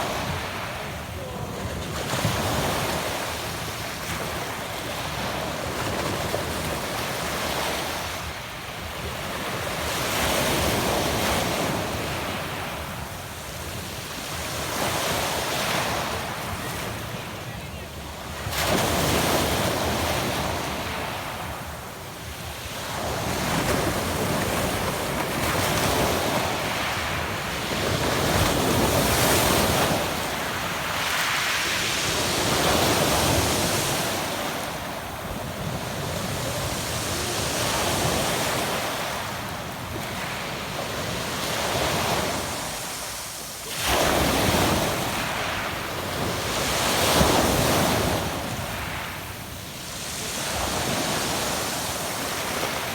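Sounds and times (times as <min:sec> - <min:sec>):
waves breaking on a pebble beach: 0:00.0 - 0:52.9.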